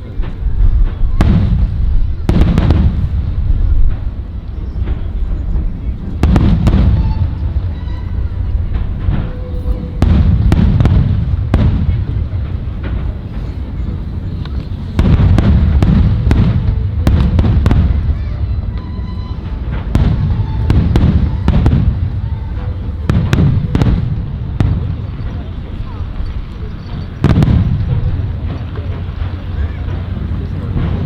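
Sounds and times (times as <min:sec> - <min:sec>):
deep rolling rumble: 0:00.0 - 0:31.0
firework shells bursting with bangs: 0:00.2 - 0:31.0.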